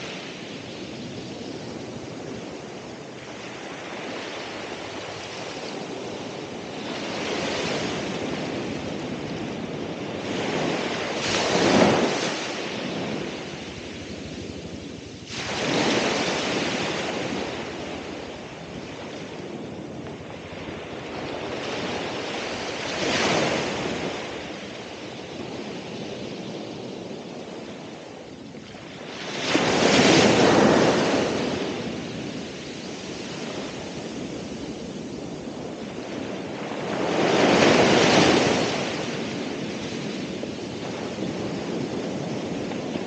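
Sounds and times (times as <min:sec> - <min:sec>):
surf washing: 0:00.0 - 0:43.0
waves crashing on shore: 0:00.0 - 0:43.0.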